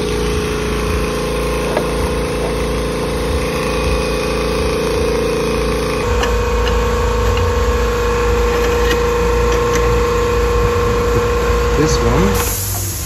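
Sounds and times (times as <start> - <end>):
machine hum with deep rumble: 0.0 - 13.0.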